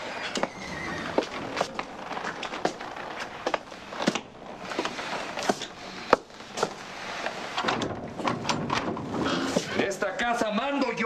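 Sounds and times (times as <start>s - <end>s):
footsteps: 0.3s - 10.5s.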